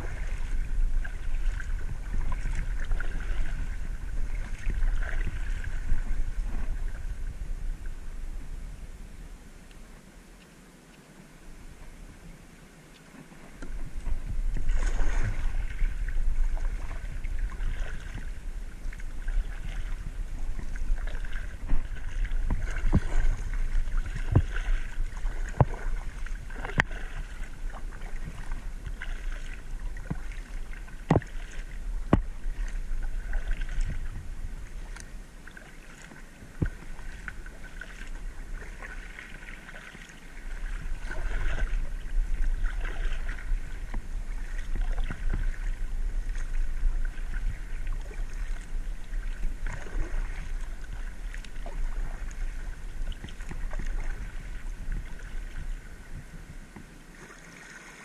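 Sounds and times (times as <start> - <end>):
steady low rumble: 0.0 - 10.4, 13.5 - 39.2, 40.3 - 56.9
paddle splashing and dripping: 0.0 - 58.0.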